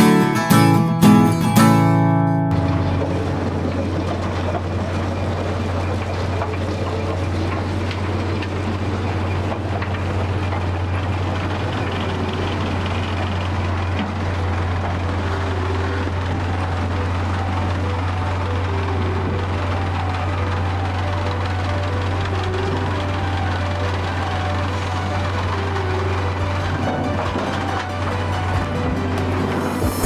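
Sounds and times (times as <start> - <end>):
sawmill machinery humming: 0.0 - 30.0.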